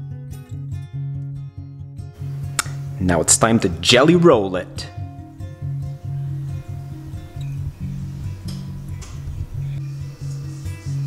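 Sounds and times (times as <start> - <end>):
plucked guitar: 0.0 - 10.8
bass line: 2.1 - 11.0.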